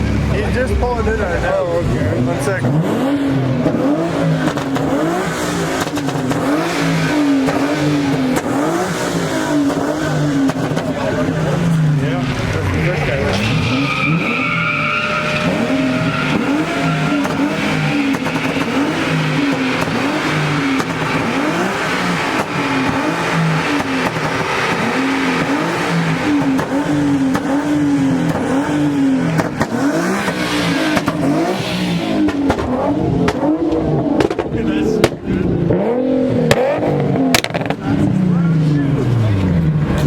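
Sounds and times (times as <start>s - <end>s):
engine revving: 0.0s - 40.0s.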